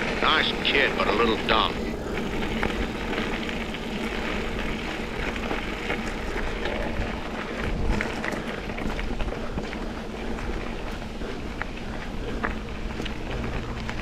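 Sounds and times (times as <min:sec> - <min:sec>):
bike clicks and rattles: 0:00.0 - 0:14.0
bike tyres and wind rushing: 0:00.0 - 0:14.0.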